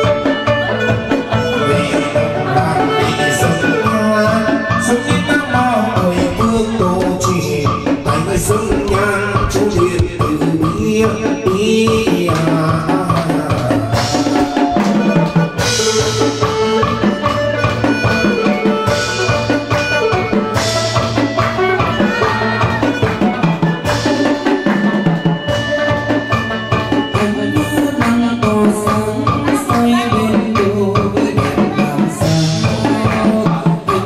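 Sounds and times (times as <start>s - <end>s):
drums and percussion beat: 0.0s - 34.0s
melody instruments: 0.0s - 34.0s.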